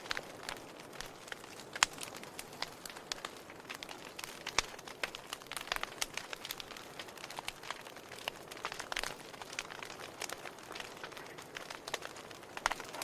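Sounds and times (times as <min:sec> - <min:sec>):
fire hiss: 0:00.0 - 0:13.0
wood fire crackling and popping: 0:00.0 - 0:13.0.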